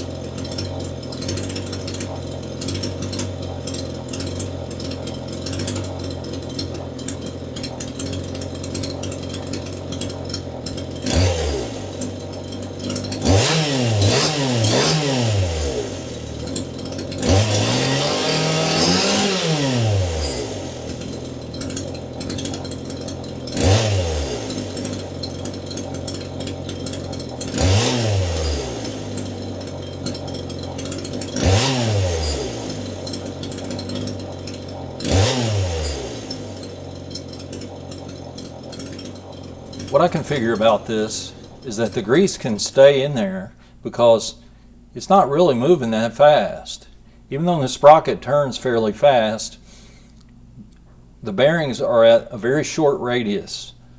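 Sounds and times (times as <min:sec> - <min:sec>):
chainsaw idling and revving: 0:00.0 - 0:50.5, 0:51.3 - 0:53.9.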